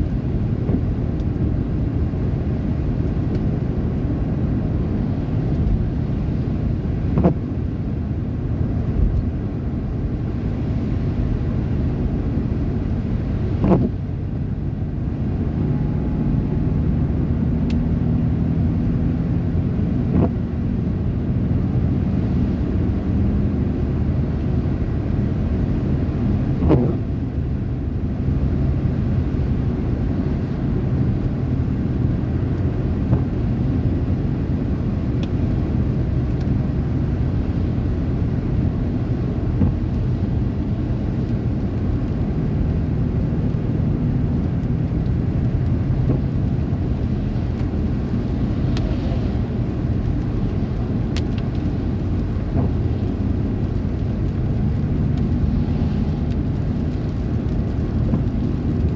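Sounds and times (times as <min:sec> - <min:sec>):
vehicle engine and road rumble: 0:00.0 - 0:58.9.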